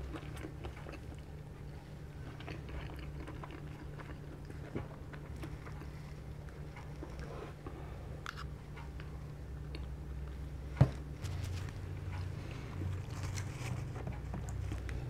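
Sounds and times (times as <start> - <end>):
low steady hum: 0.0 - 15.0
soft chewing sounds: 0.0 - 15.0.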